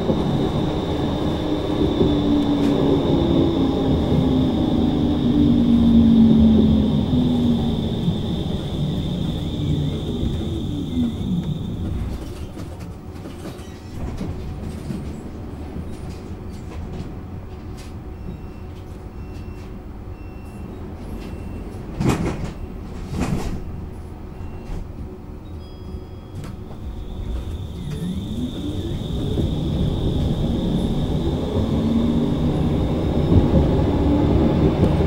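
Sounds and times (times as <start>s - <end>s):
tram low rumble: 0.0s - 35.0s.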